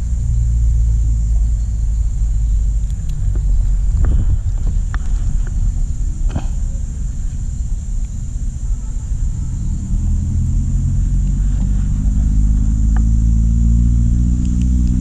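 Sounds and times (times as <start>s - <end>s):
motor engine droning: 0.0s - 15.0s.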